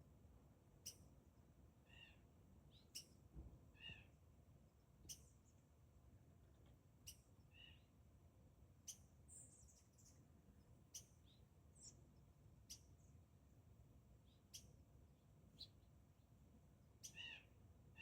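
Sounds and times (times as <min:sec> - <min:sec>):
faint birdsong chirps: 0:00.7 - 0:01.2, 0:01.8 - 0:04.2, 0:05.0 - 0:05.8, 0:06.4 - 0:08.1, 0:08.8 - 0:18.0.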